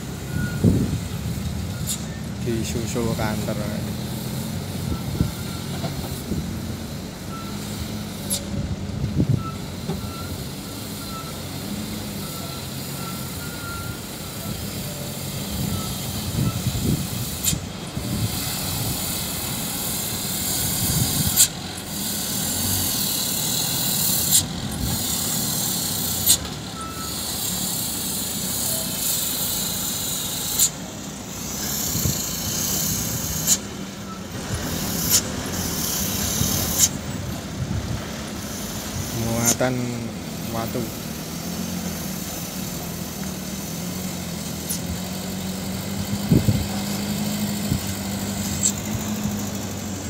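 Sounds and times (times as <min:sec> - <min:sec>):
truck engine running: 0:00.0 - 0:50.0.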